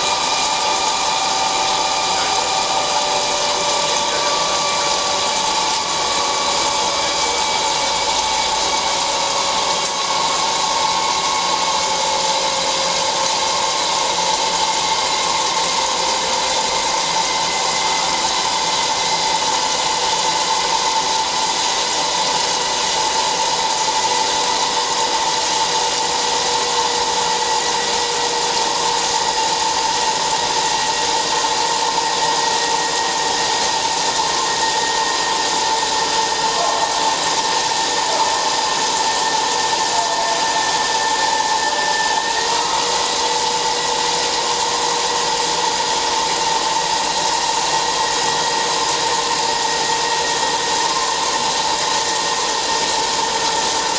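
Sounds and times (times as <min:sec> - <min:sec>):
lathe machining: 0:00.0 - 0:53.9.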